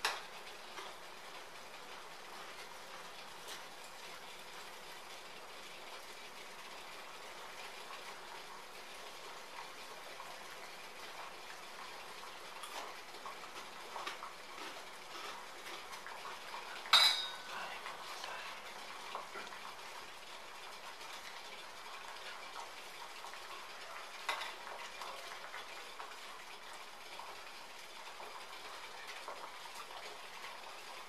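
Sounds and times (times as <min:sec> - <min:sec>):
water boiling in pot: 0:00.0 - 0:31.0.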